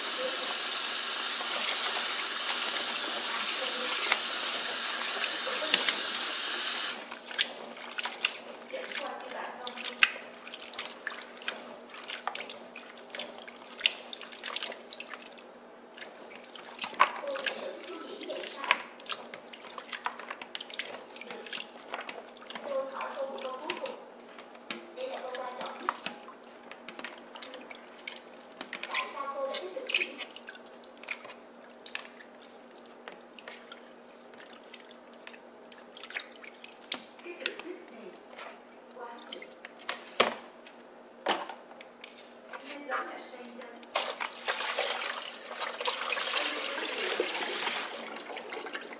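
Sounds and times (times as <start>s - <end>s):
small splashes and drips: 0.2s - 40.0s, 43.5s - 48.9s.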